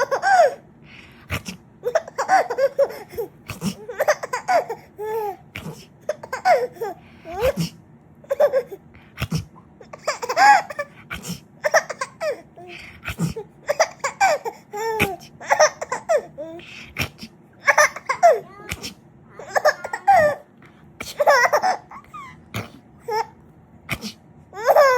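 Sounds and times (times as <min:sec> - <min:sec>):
baby laughing: 0:00.0 - 0:00.6, 0:01.8 - 0:07.6, 0:08.2 - 0:08.8, 0:09.8 - 0:11.0, 0:11.6 - 0:24.9.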